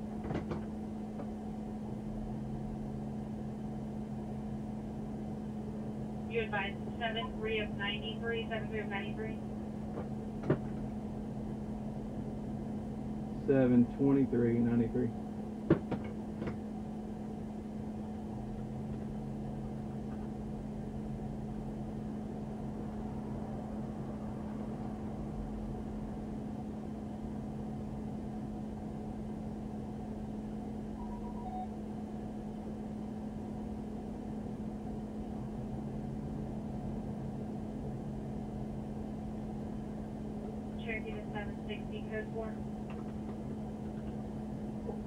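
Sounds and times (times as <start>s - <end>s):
car engine idling hum: 0.0s - 45.0s.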